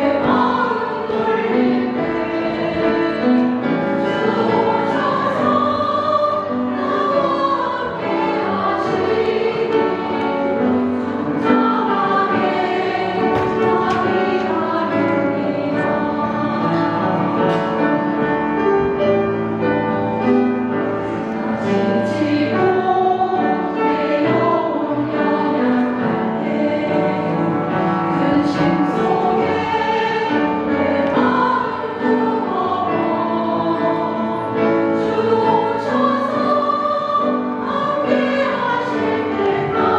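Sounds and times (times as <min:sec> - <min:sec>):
women singing in harmony: 0:00.0 - 0:18.2, 0:21.4 - 0:39.9.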